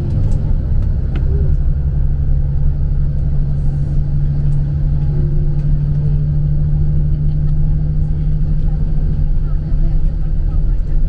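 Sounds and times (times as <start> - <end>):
low hum: 0.0 - 11.0
road rumble: 0.0 - 11.0
vehicle engine drone: 0.0 - 11.0.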